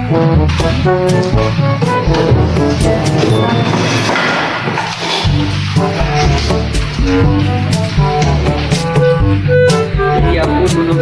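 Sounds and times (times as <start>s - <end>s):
jazzy instrumental music: 0.0s - 11.0s.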